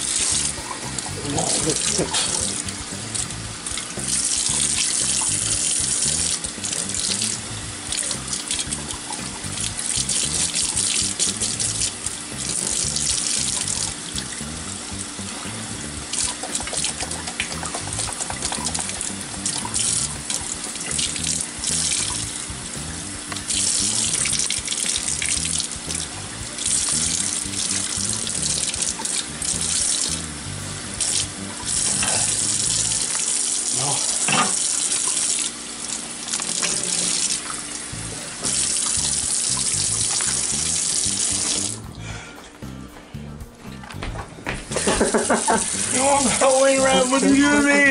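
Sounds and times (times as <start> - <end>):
background music: 0.0 - 33.1, 38.0 - 47.9
water running in surges: 0.0 - 41.9.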